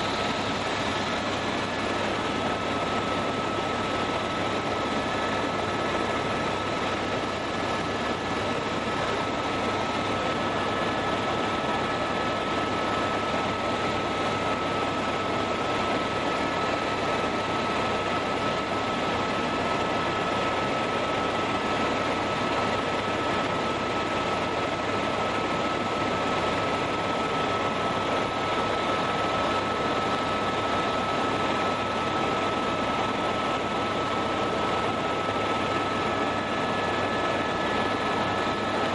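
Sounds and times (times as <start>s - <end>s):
constant high whine: 0.0s - 38.9s
helicopter rotor and engine drone: 0.0s - 38.9s.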